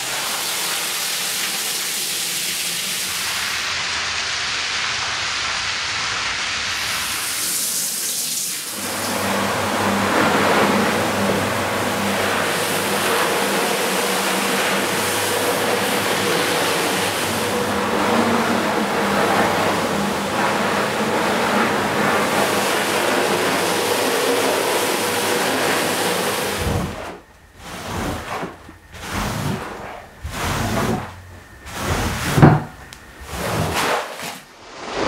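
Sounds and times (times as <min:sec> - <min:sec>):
mop swishing soapy water: 0:00.0 - 0:35.0
rotary floor scrubbing machine: 0:00.0 - 0:35.0.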